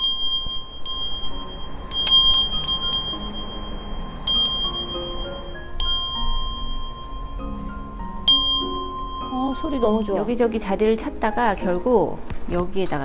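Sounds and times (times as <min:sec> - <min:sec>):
small metal wind bell ringing: 0:00.0 - 0:10.7.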